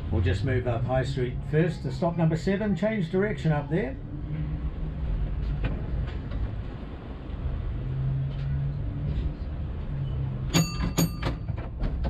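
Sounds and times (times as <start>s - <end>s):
tram low hum: 0.0s - 12.0s.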